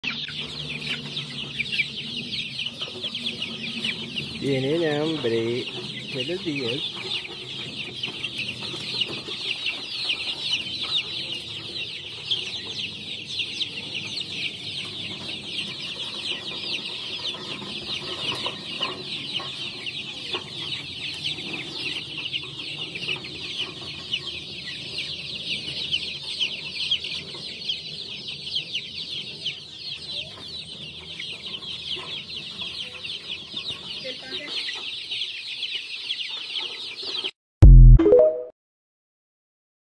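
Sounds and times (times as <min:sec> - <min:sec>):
hens clucking: 0:00.0 - 0:36.9
baby chicks peeping: 0:00.0 - 0:37.3.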